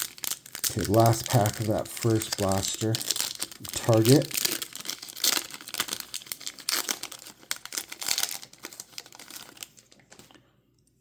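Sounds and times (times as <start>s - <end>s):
foil wrapper tearing and crinkling: 0.0s - 10.4s.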